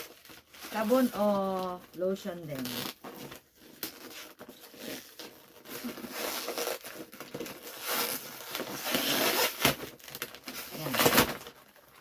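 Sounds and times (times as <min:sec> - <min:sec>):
wrapping paper rustling and tearing: 0:00.0 - 0:12.0.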